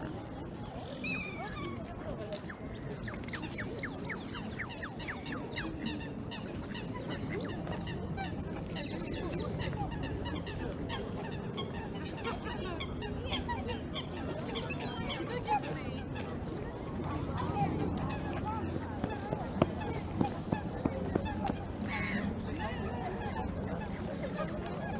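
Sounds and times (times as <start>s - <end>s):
park background noise: 0.0s - 24.9s
waterbirds calling and honking: 0.7s - 16.3s, 19.8s - 24.9s.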